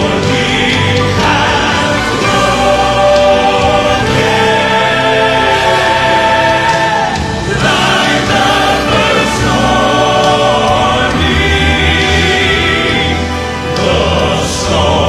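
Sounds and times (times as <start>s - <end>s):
live band playing: 0.0s - 15.0s
male quartet singing in harmony: 0.0s - 15.0s.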